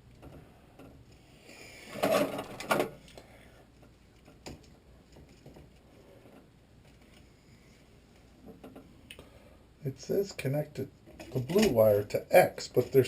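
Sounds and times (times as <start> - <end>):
faint handling noises: 0.0 - 9.2, 10.3 - 13.0.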